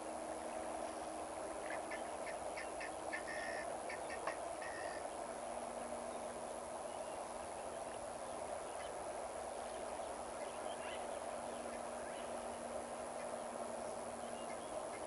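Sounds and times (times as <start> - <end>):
faint steady hum: 0.0 - 15.0
flowing river water: 0.0 - 15.0.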